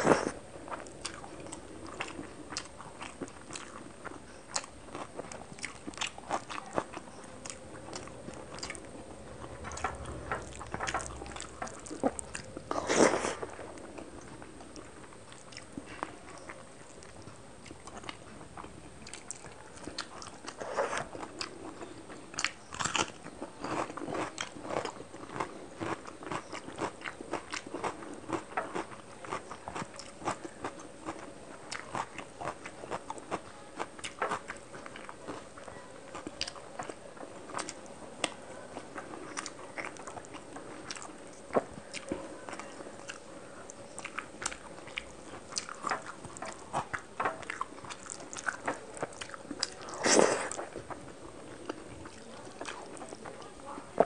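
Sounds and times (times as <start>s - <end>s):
person chewing and mouth sounds: 0.0s - 54.0s.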